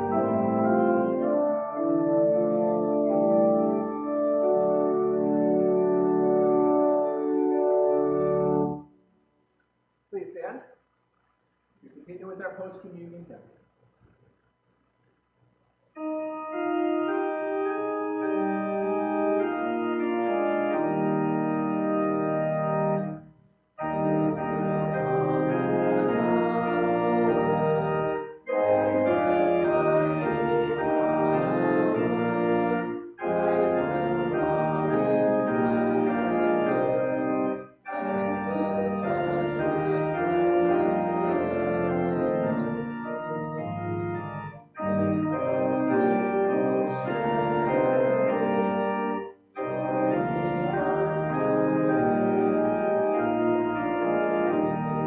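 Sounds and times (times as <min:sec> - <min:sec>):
organ playing a hymn: 0:00.0 - 0:08.9, 0:16.0 - 0:55.0.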